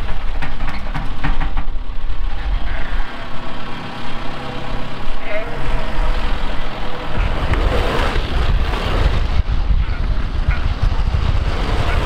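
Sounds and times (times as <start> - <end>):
loader engine running: 0.0 - 12.0
wind rumbling on microphone: 0.0 - 12.0.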